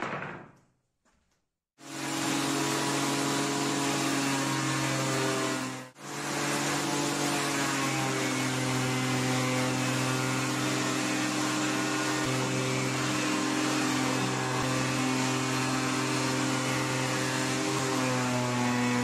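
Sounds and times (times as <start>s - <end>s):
hiss of planer cutting wood: 1.8s - 19.0s.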